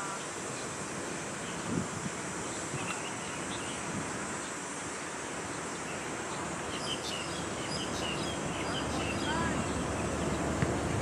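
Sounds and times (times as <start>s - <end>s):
faint distant calls: 0.0s - 11.0s
outdoor background noise: 0.0s - 11.0s.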